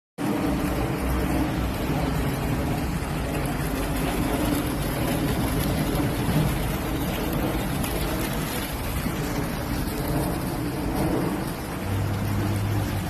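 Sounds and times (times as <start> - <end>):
fountain water splashing down steps: 0.2 - 13.0.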